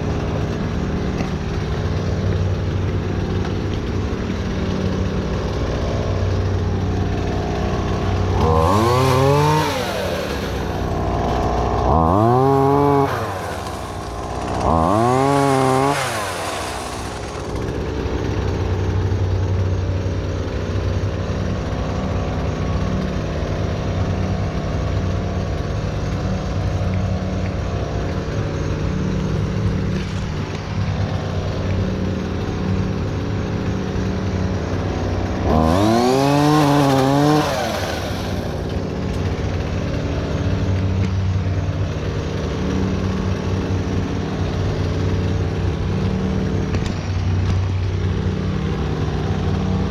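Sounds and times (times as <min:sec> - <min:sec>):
chainsaw idling: 0:00.0 - 0:49.9
chainsaw revving: 0:00.0 - 0:49.9.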